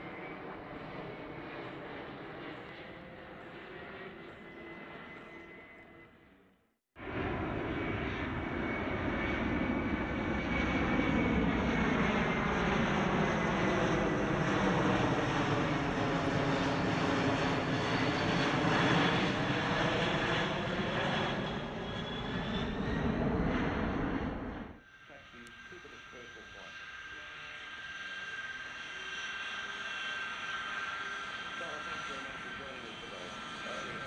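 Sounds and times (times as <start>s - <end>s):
jet roar with falling whine: 0.0s - 6.3s, 7.0s - 34.0s.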